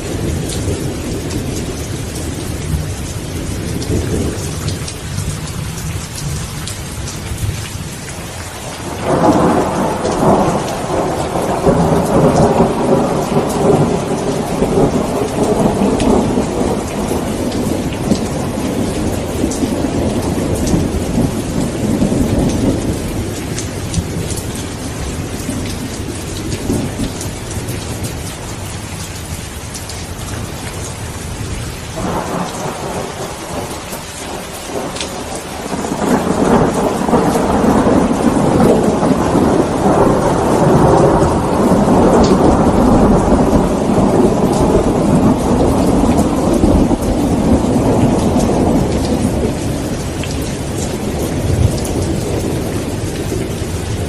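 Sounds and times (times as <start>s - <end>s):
rolling thunder: 0.0s - 6.5s, 8.7s - 28.6s, 29.8s - 54.0s
steady rain: 0.0s - 54.0s.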